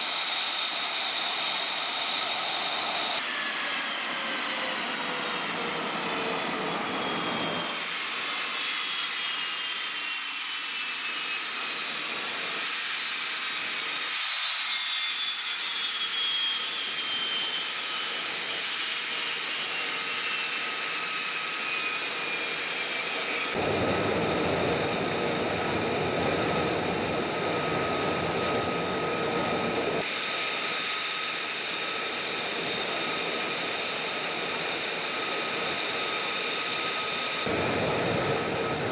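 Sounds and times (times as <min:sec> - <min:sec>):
jet fighter engine whining: 0:00.0 - 0:38.9.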